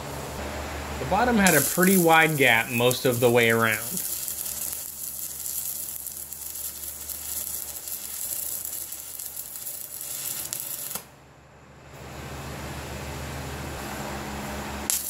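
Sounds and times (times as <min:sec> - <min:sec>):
arc welding crackling sizzle: 0:00.0 - 0:11.1, 0:13.9 - 0:15.0.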